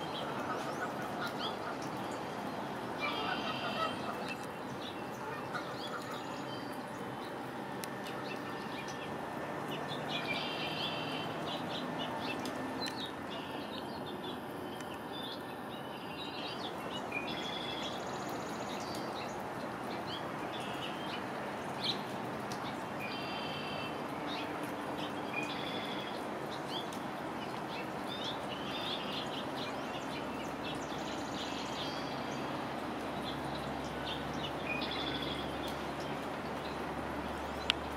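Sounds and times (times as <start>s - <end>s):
rain hiss: 0.0s - 37.9s
small birds chirping: 0.0s - 37.9s.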